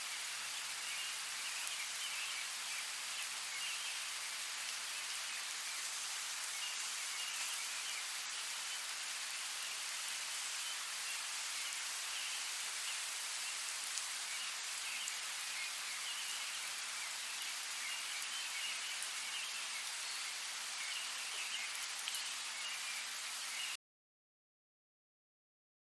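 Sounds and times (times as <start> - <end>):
steady rain falling: 0.0 - 23.8.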